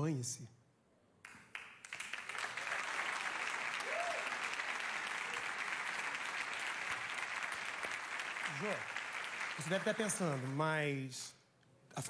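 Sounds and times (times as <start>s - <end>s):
audience applauding: 1.3s - 11.2s.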